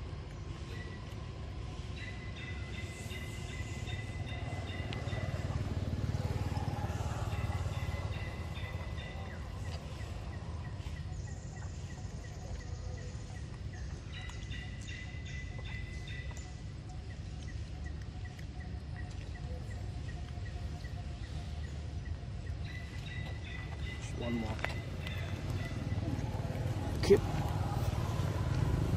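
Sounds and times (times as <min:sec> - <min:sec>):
bird chirping: 0:00.3 - 0:28.9.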